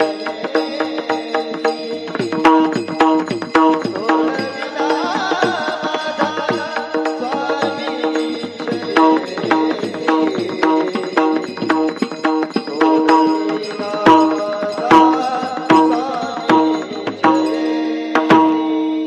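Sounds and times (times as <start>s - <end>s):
hand drum beating quick rhythm: 0.0s - 18.9s
pitched melody: 0.0s - 19.0s.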